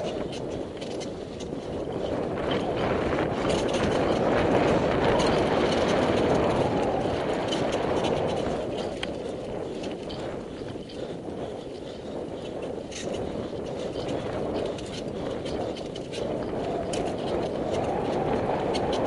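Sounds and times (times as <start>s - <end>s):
bike clicking and rattling: 0.0s - 19.0s
rushing tyres and air: 0.0s - 19.0s.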